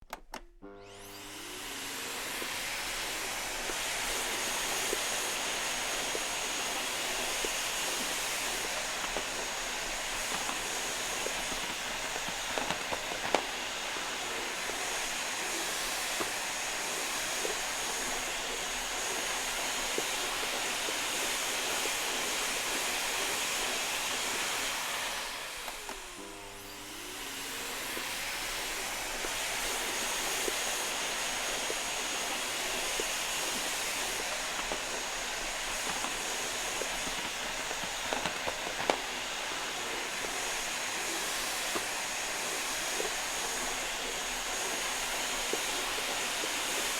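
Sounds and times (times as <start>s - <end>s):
vacuum cleaner running: 0.1s - 46.9s.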